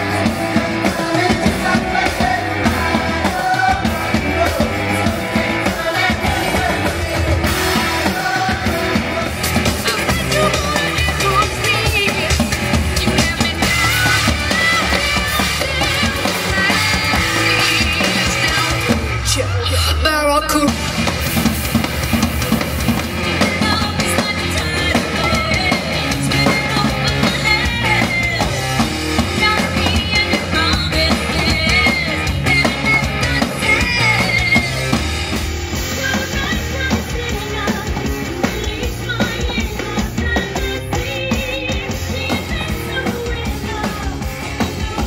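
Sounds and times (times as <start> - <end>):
live music with drum kit: 0.0 - 45.0.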